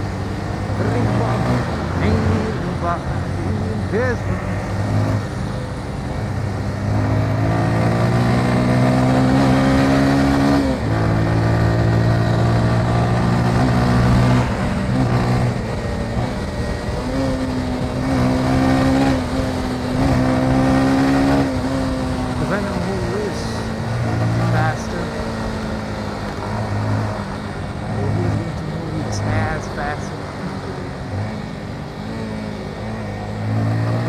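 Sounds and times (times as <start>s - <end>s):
motorcycle engine under load: 0.0s - 34.0s.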